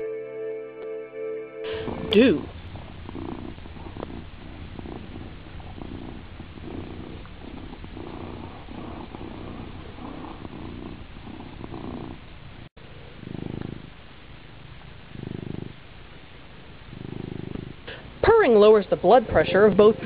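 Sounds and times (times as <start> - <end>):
cat purring: 1.7 - 20.0.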